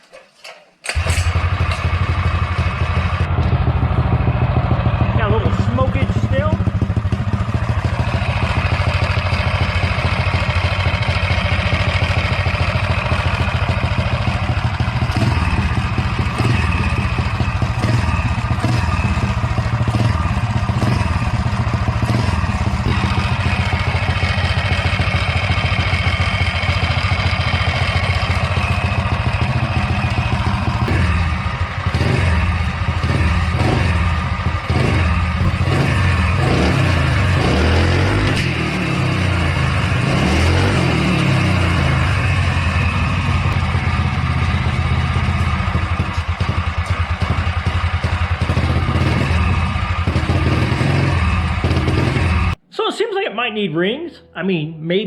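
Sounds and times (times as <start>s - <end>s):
small engine idling with clatter: 0.0s - 52.6s.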